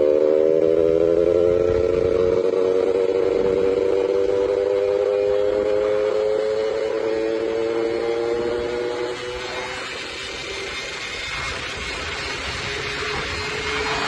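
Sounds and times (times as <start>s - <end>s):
moped engine buzzing: 0.0s - 14.0s.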